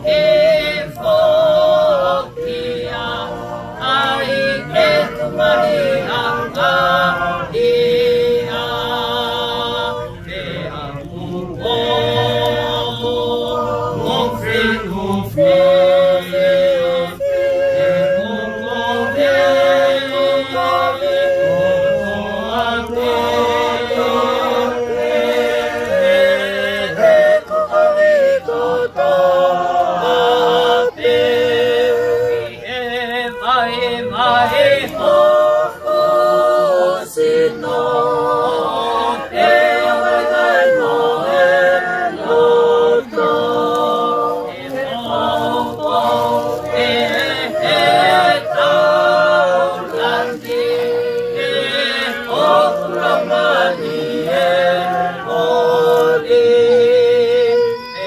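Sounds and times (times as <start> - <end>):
group singing a hymn: 0.0 - 58.0.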